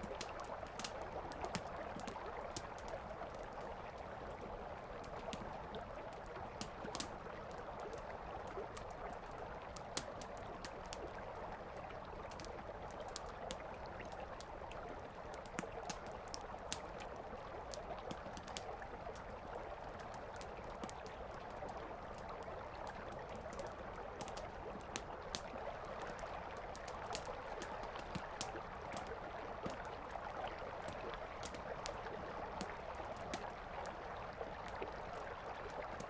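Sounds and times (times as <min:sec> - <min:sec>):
campfire crackling and popping: 0:00.0 - 0:11.2, 0:12.1 - 0:14.5, 0:15.3 - 0:35.0.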